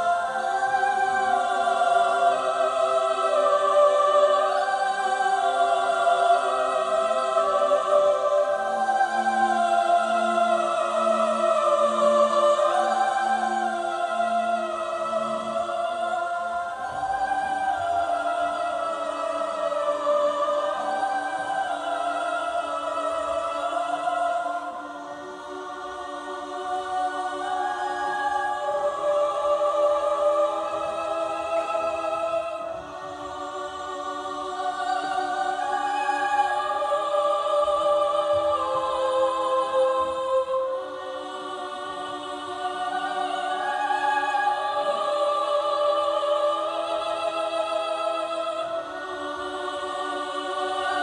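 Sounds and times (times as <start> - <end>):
choir singing long notes: 0.0 - 51.0.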